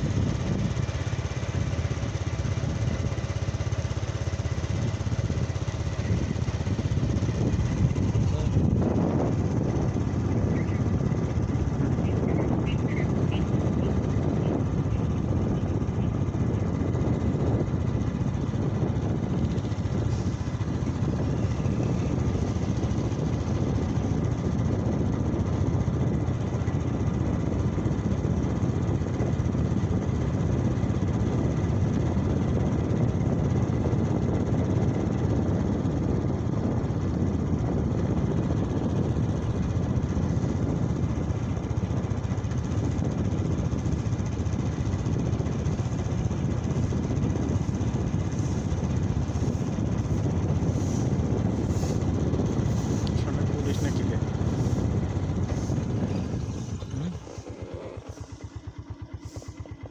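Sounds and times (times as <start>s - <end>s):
motorcycle engine and road noise: 0.0s - 59.9s
wind buffeting microphone: 0.0s - 59.9s.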